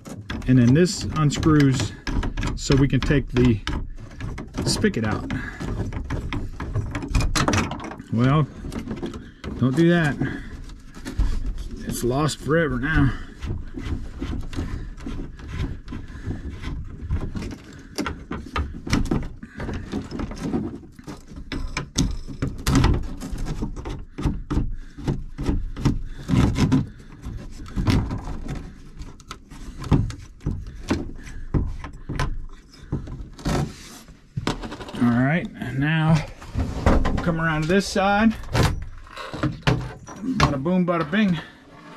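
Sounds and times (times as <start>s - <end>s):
hand bumping wooden panel: 0.0s - 35.0s
plastic nut clicking and rubbing: 0.0s - 36.5s.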